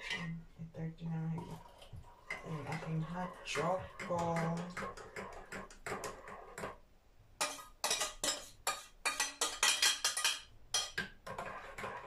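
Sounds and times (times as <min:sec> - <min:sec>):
metal spoon scraping saucepan: 0:01.4 - 0:06.8, 0:07.4 - 0:12.0.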